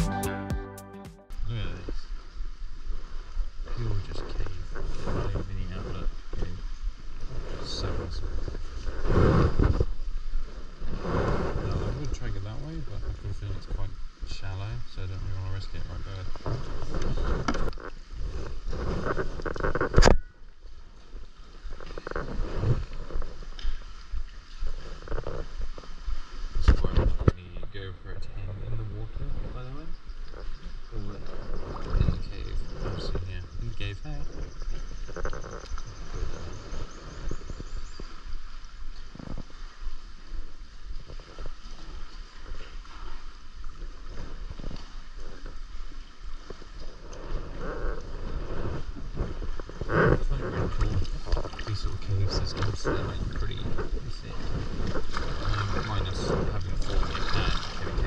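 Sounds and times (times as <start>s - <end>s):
water lapping against a hull: 1.6s - 58.0s
muffled underwater sloshing: 1.8s - 58.0s.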